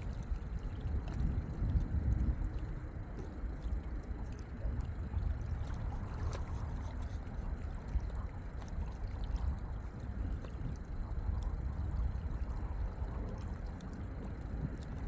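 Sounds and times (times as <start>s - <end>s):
wind on microphone: 0.0s - 3.0s, 4.6s - 15.0s
water lapping at shore: 0.0s - 15.0s.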